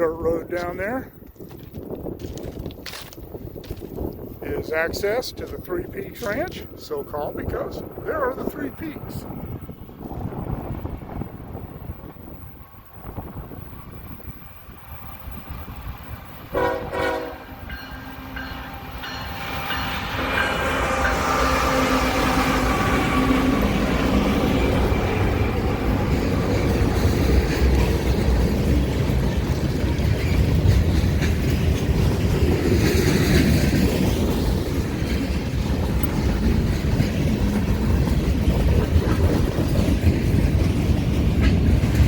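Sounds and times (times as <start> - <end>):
freight train rumbling on rails: 0.0 - 42.0.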